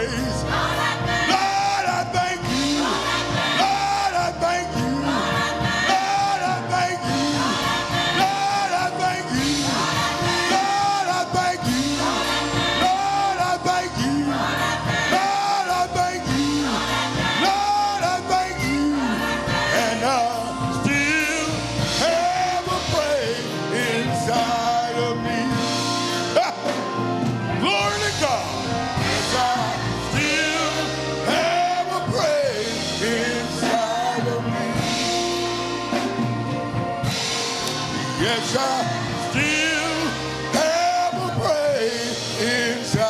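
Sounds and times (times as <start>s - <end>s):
gospel choir singing with band: 0.0s - 43.0s.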